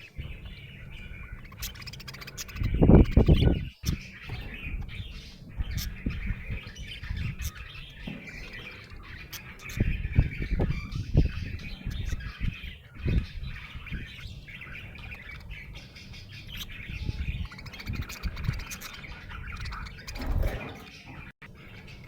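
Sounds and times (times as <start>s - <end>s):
budgerigar chirping: 0.0s - 22.0s.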